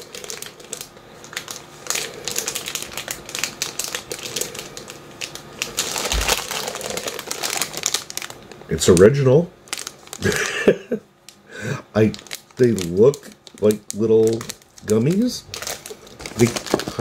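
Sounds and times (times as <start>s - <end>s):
plastic packaging crinkling: 0.0s - 11.4s, 12.0s - 17.0s.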